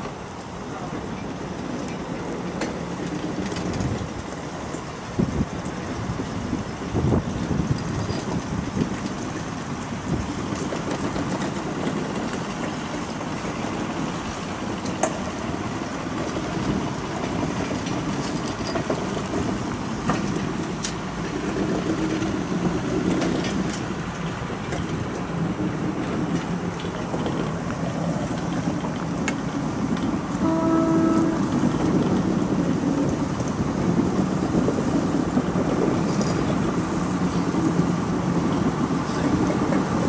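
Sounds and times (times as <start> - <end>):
train coaches rumbling past: 0.0 - 40.0.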